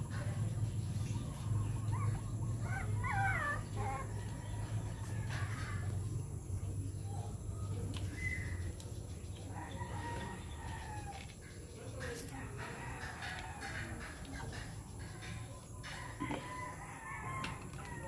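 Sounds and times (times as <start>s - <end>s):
steady low hum: 0.0s - 16.9s
chickens calling: 0.0s - 18.0s.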